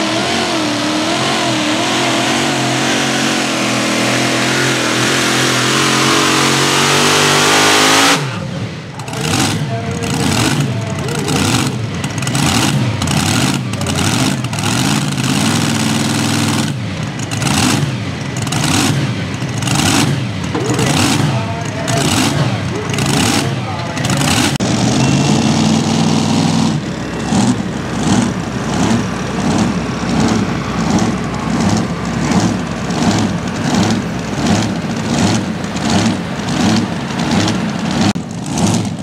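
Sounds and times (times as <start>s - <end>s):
vehicle engine revving: 0.0s - 39.0s.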